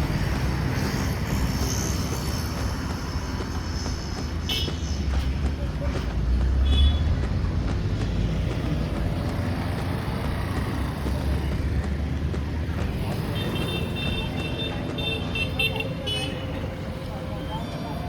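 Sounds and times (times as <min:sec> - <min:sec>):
road noise: 0:00.0 - 0:18.0
vehicle engine rumbling: 0:00.0 - 0:18.0.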